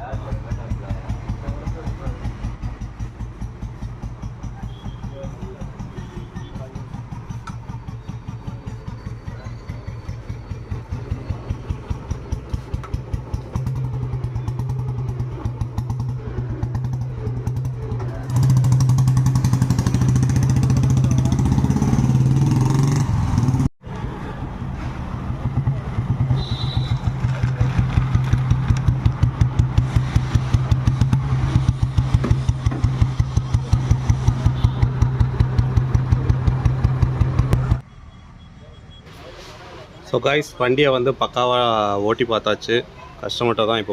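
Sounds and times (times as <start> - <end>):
motorcycle engine running: 0.0 - 23.7, 25.2 - 37.8.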